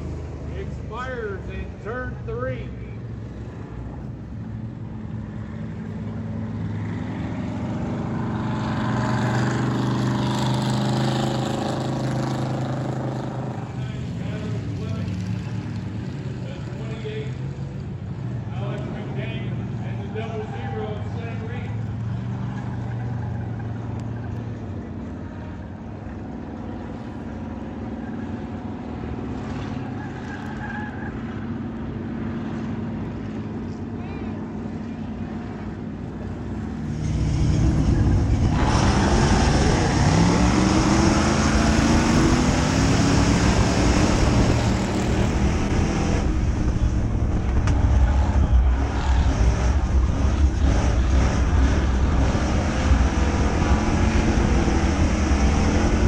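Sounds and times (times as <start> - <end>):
race car engines: 0.0 - 56.0.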